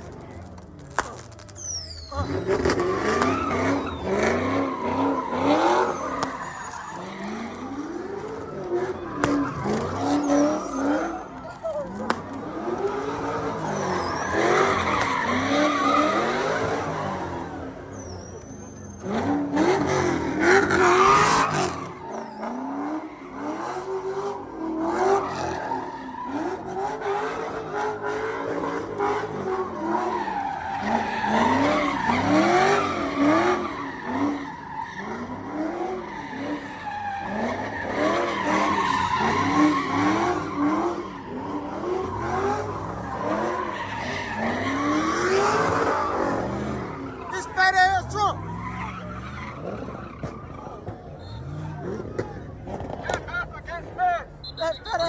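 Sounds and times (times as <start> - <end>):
car engine revving: 0.0 - 54.4
tyres squealing on pavement: 0.0 - 55.0.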